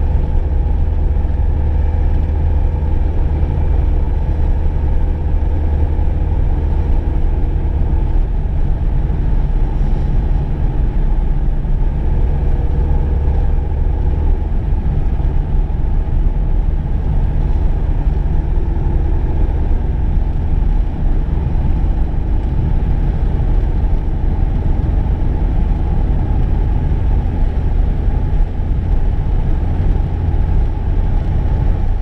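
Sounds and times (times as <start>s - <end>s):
car interior road and engine noise: 0.0s - 32.0s.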